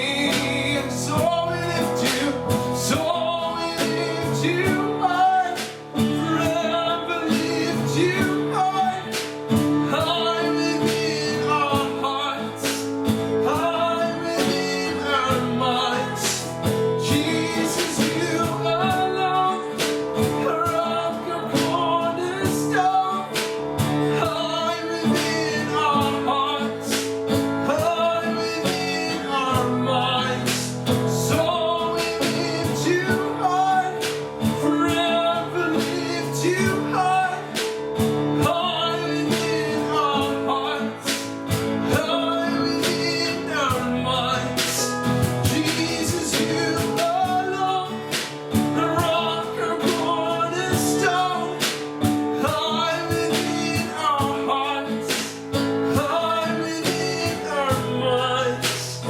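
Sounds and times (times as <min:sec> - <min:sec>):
band accompaniment: 0:00.0 - 0:59.0
person singing: 0:00.0 - 0:59.0
strummed acoustic guitar: 0:00.0 - 0:59.0.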